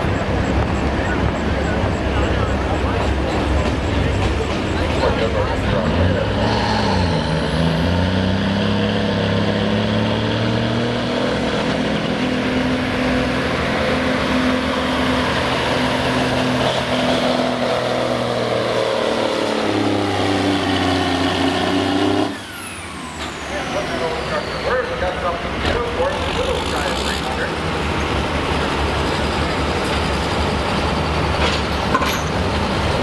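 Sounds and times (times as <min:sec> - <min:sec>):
diesel truck engine at high revs: 0:00.0 - 0:33.0.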